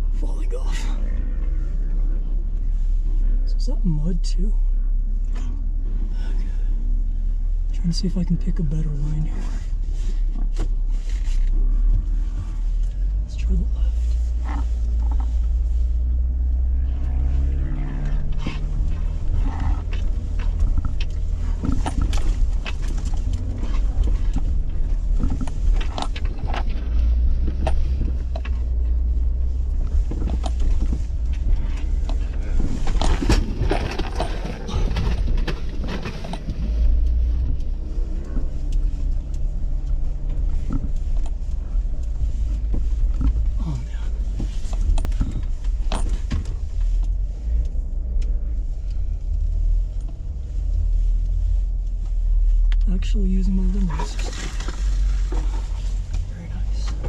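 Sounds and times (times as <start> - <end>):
vehicle engine low rumble: 0.0 - 57.0
body knocks creaks and rattles: 7.7 - 57.0.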